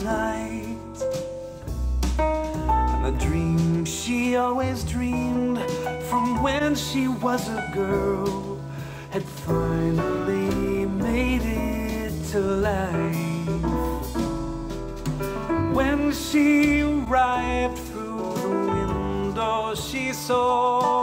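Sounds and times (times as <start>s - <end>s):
music through room speakers: 0.0s - 21.0s.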